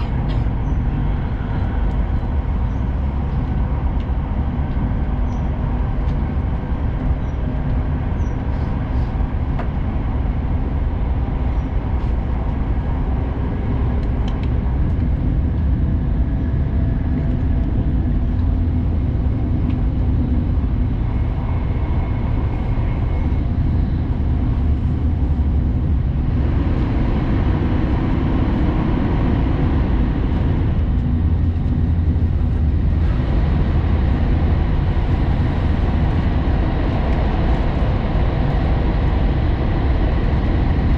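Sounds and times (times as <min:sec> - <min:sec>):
train wheels rumbling: 0:00.0 - 0:40.9.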